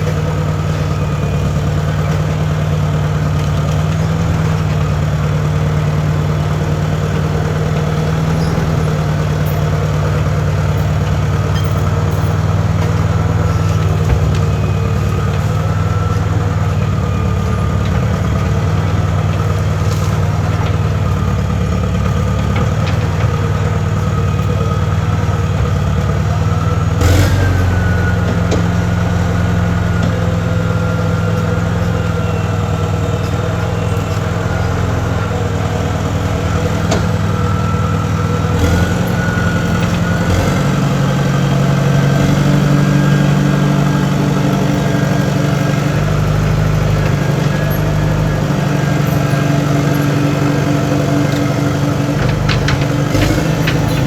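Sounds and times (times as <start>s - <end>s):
loader engine running: 0.0s - 54.0s.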